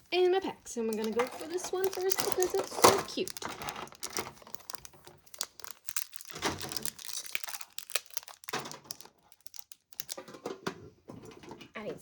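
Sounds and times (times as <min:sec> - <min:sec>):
foil wrapper crinkling: 0:00.0 - 0:10.5.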